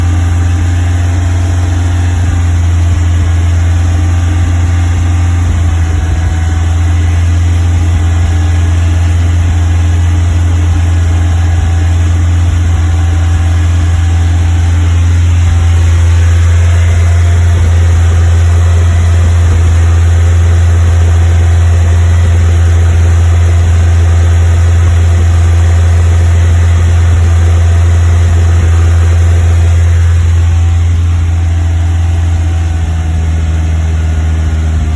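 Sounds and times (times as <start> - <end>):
car engine misfiring: 0.0 - 34.9.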